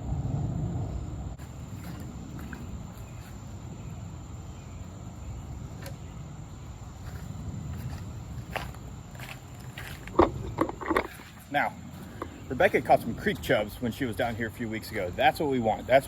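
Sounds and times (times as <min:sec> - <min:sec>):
low rumbling noise: 0:00.0 - 0:15.9.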